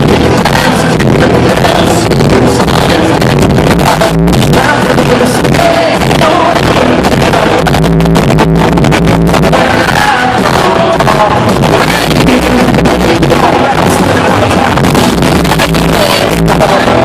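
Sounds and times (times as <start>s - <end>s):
person singing: 0.0s - 8.0s, 9.3s - 17.0s
country band playing: 0.0s - 17.0s.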